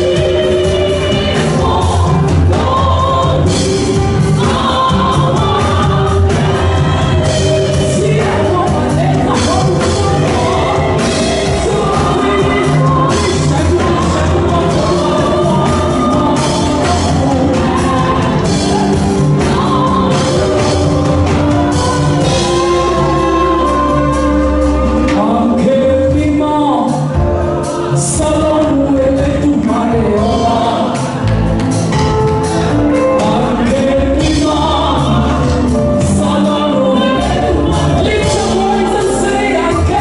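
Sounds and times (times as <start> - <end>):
woman singing gospel: 0.0 - 31.2, 33.0 - 40.0
band playing with strong bass: 0.0 - 40.0.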